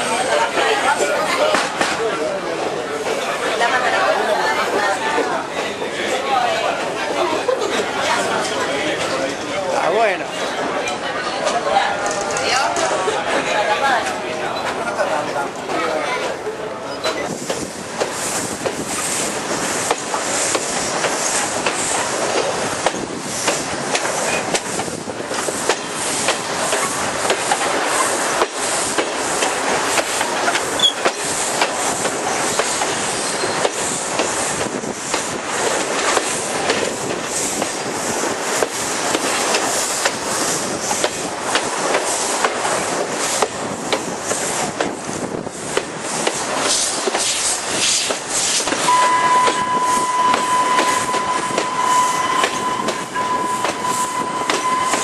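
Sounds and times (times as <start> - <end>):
train wheel and rail noise: 0.0 - 55.0.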